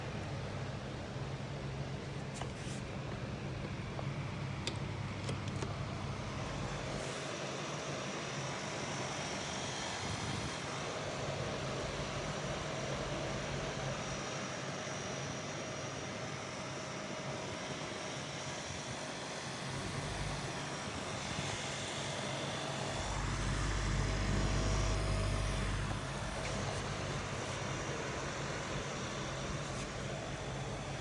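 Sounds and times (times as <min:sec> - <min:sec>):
small fan running: 0:00.0 - 0:31.0.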